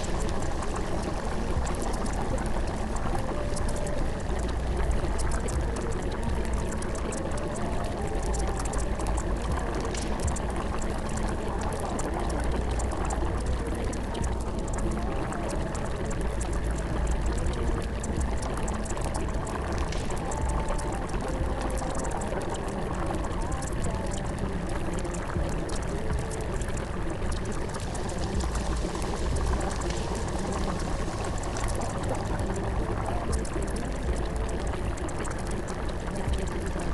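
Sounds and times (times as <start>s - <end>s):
deep low rumble: 0.0s - 36.9s
running water rushing: 0.0s - 36.9s.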